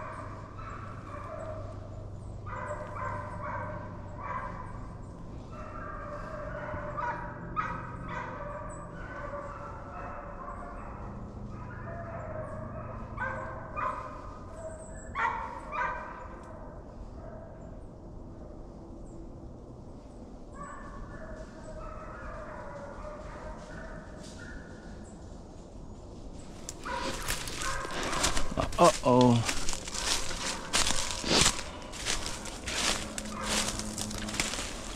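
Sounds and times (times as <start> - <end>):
hounds baying: 0.0 - 17.6, 20.5 - 25.2, 26.4 - 34.9.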